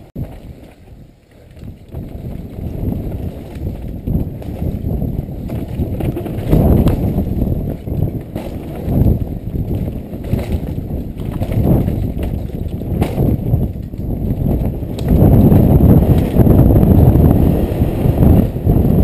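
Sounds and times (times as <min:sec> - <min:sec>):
bike rattling over bumps: 0:00.0 - 0:19.0
wind rumble on microphone: 0:00.0 - 0:19.0.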